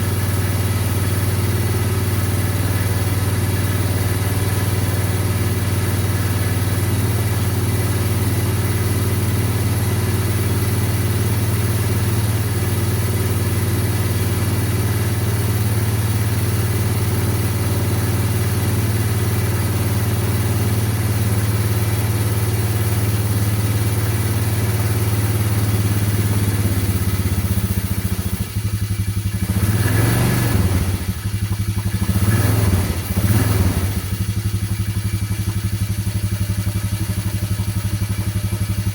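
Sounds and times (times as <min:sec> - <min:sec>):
atv engine idling and revving: 0:00.0 - 0:38.9.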